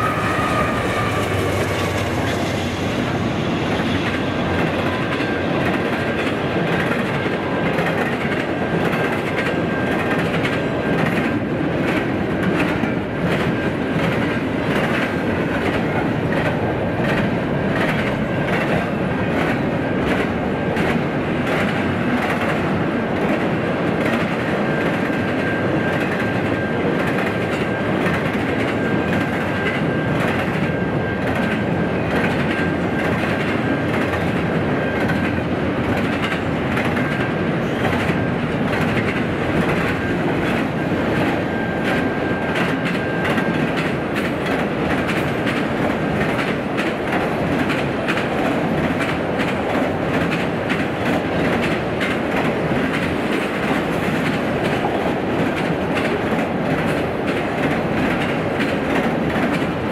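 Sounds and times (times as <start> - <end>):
train wheels rumbling on rail: 0.0 - 59.9
wheels clacking over rail joints: 0.1 - 59.8.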